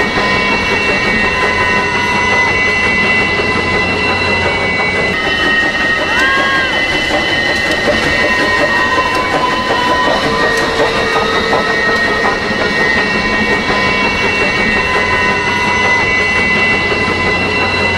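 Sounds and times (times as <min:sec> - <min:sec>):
high-pitched wheel squeals: 0:00.0 - 0:17.9
train wheels rumbling on rail: 0:00.0 - 0:17.9.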